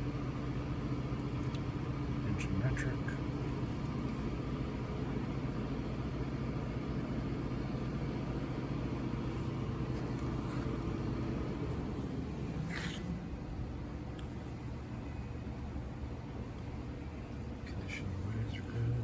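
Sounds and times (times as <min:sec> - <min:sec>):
machinery hum and rumble: 0:00.0 - 0:19.0.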